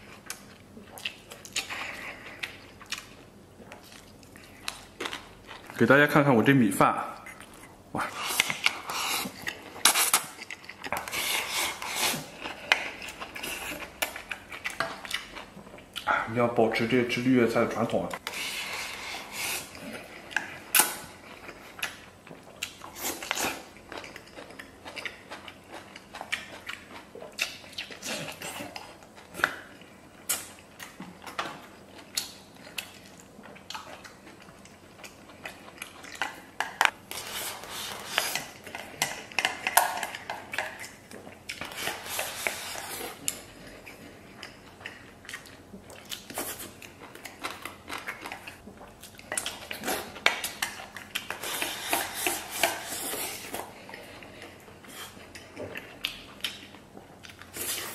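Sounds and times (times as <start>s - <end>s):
slurping and chewing: 0.0s - 5.7s, 7.2s - 16.3s, 18.1s - 57.9s.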